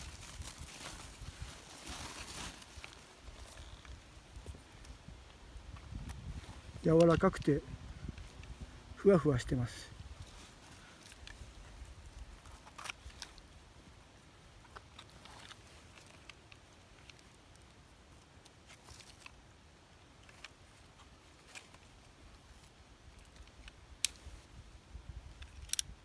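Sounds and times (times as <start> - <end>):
faint handling noises: 0.0 - 26.0.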